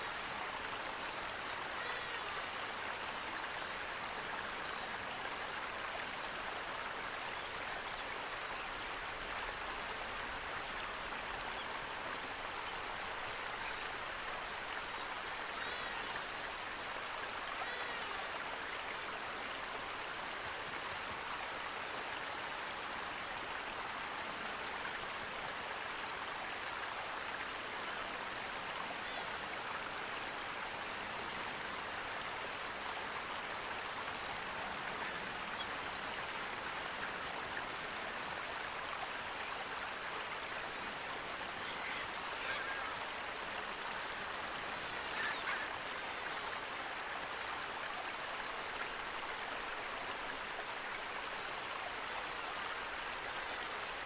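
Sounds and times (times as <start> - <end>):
flowing water rushing: 0.0 - 54.0.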